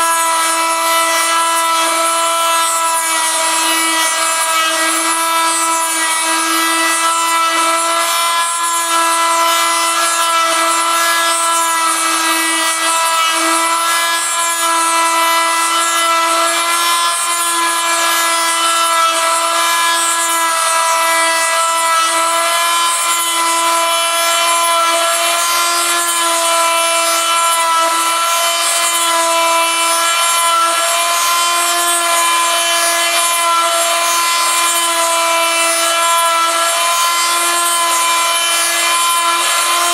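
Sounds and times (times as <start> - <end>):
cutter motor whine: 0.0 - 39.9
rotary cutter rasping wood: 0.0 - 39.9.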